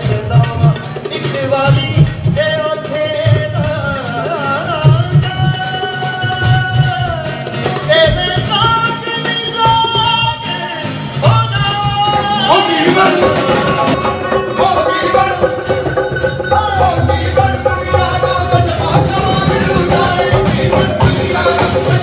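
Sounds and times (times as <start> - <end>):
acoustic band accompaniment: 0.0 - 22.0
man singing into a microphone: 0.0 - 22.0.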